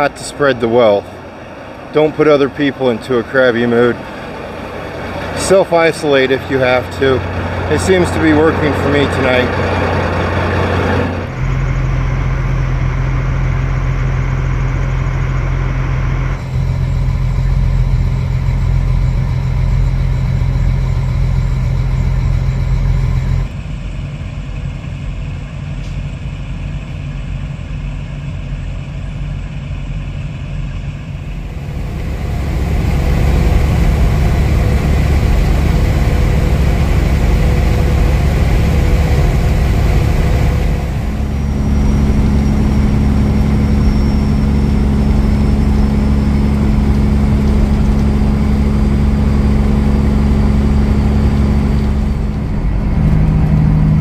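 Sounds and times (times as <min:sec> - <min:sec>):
idling diesel trucks: 0:00.0 - 0:54.0
road noise: 0:00.0 - 0:54.0
truck engine drone in cab: 0:00.0 - 0:54.0.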